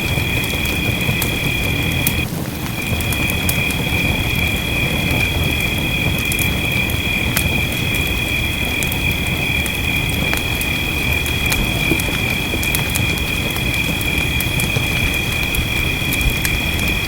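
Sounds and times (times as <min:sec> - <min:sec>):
rain: 0:00.0 - 0:17.0
wood fire crackling: 0:00.0 - 0:17.0.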